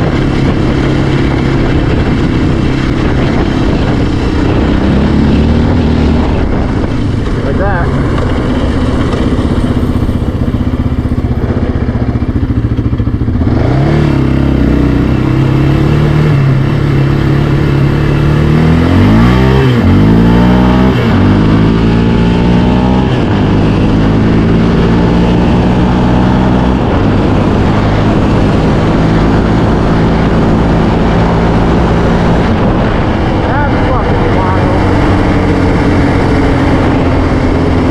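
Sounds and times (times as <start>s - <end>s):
atv engine revving: 0.0s - 37.9s.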